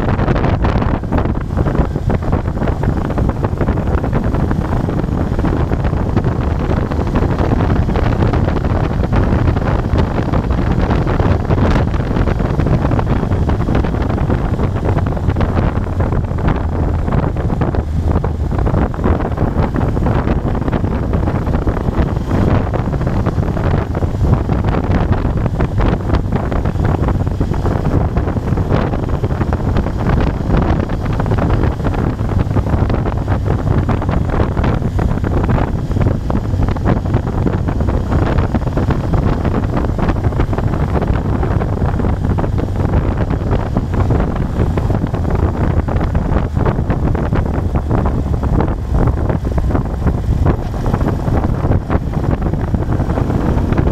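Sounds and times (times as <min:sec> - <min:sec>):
motorcycle engine cruising: 0:00.0 - 0:53.9
wind rushing over microphone: 0:00.0 - 0:53.9.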